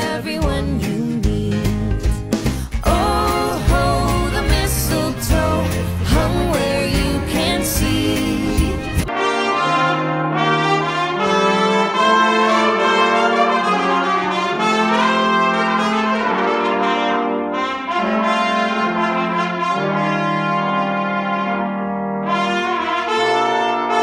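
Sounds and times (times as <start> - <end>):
brass ensemble playing chords: 2.9 - 24.0.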